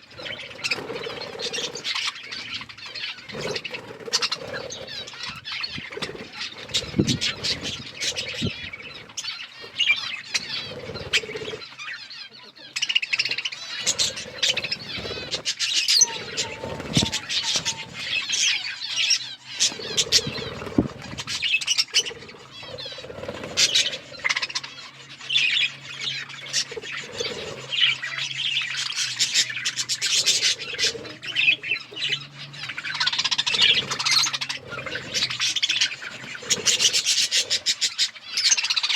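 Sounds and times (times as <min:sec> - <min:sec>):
wing flutters: 0:00.0 - 0:12.1, 0:12.8 - 0:38.9
budgerigars chattering and chirping: 0:00.0 - 0:38.9.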